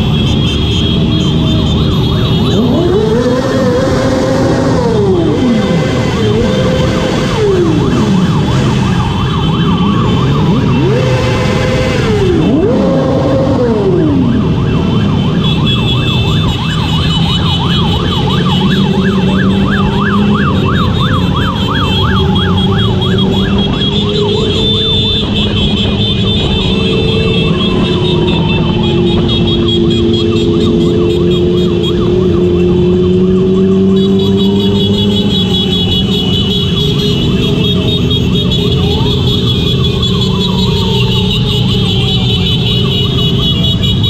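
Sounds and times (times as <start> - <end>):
motorcycle engine: 0.0 - 44.0
road noise: 0.0 - 44.0
sirens yelping: 0.0 - 44.0.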